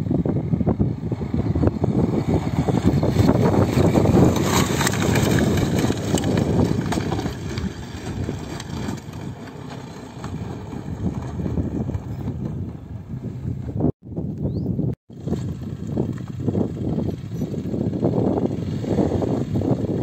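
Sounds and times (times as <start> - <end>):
motorcycle engines at low revs: 0.0 - 20.0
wind buffeting microphone: 0.0 - 20.0.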